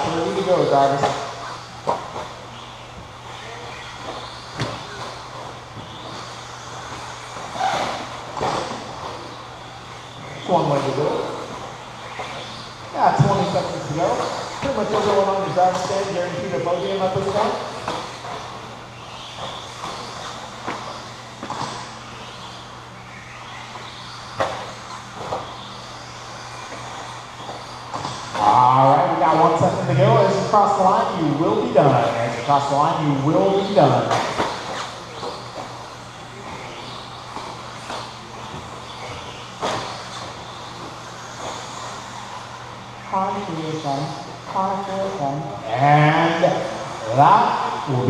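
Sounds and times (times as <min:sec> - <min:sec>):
constant low hum: 0:00.0 - 0:48.0
rc trucks motor and tyre noise: 0:00.0 - 0:48.0.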